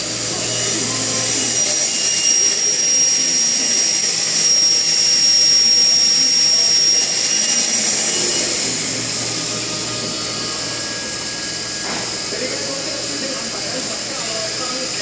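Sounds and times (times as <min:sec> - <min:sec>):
thin high whistle: 0:00.3 - 0:13.5.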